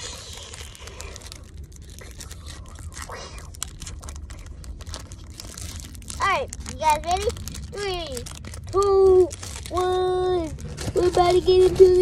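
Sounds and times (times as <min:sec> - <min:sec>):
foil pack crinkling: 0:00.0 - 0:12.0.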